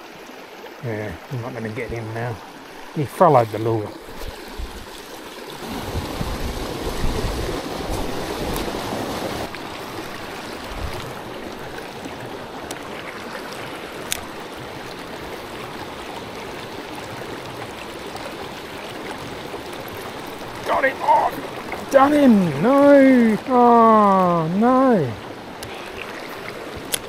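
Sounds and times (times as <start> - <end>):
creek water rushing over stones: 0.0 - 27.0.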